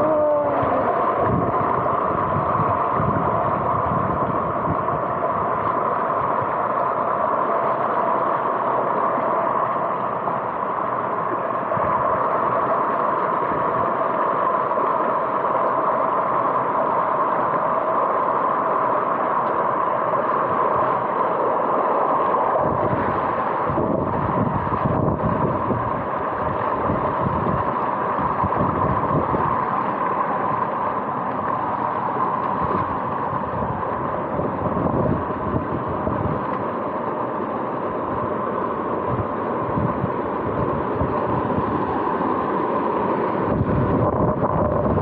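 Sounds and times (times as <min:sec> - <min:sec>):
stream water running: 0:00.0 - 0:45.0.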